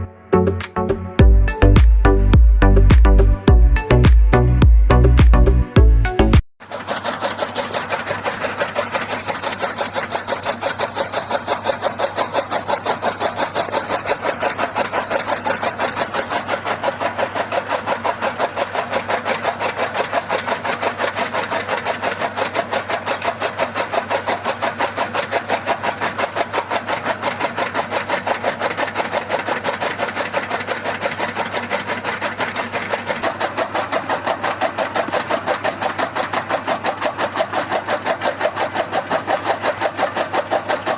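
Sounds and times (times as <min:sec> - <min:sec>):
model tractor engine chugging: 0:06.6 - 0:40.9.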